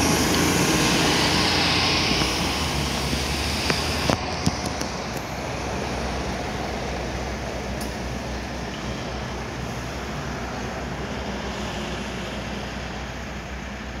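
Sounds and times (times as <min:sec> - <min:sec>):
garbage truck diesel engine: 0:00.0 - 0:14.0
road noise: 0:00.0 - 0:14.0.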